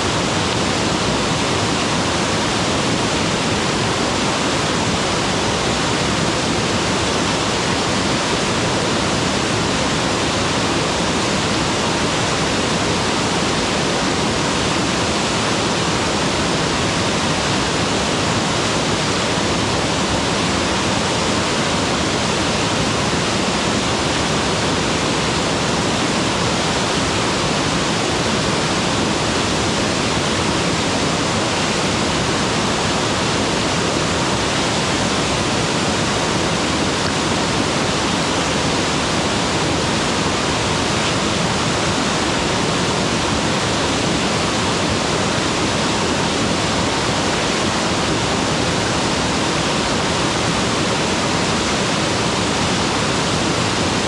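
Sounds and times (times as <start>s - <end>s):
waterfall pouring and splashing: 0.0s - 54.0s.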